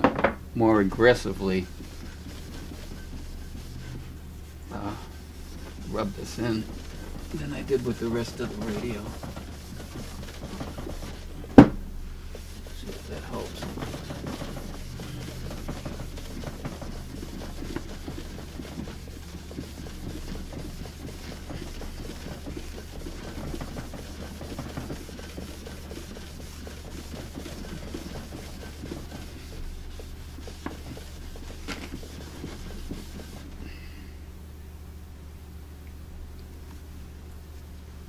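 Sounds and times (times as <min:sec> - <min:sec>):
steady low hum: 0:00.0 - 0:38.0
hand scrubbing wood back and forth: 0:00.6 - 0:33.8.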